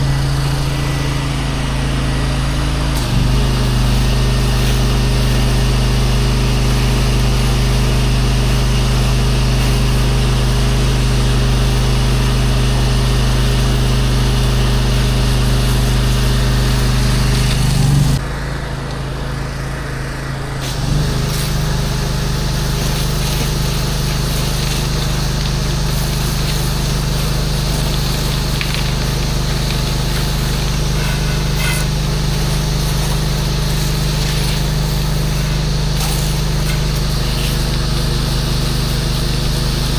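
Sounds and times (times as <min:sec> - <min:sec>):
pressure washer engine running: 0:00.0 - 0:39.9
water spray hissing: 0:03.0 - 0:18.2, 0:20.6 - 0:39.9.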